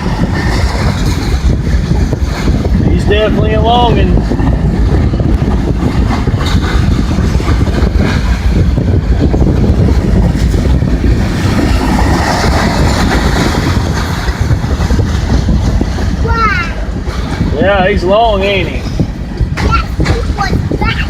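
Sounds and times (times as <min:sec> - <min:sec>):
train wheels rumbling on rail: 0:00.0 - 0:21.0
wind buffeting microphone: 0:00.0 - 0:21.0.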